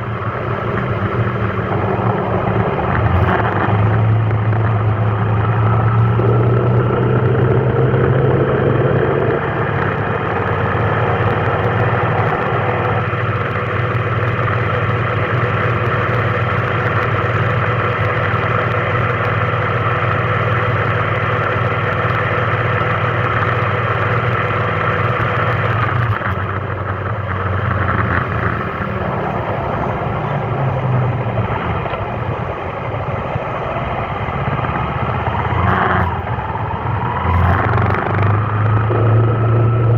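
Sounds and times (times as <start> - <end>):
road noise: 0.0 - 39.9
vehicle engine humming: 0.0 - 39.9.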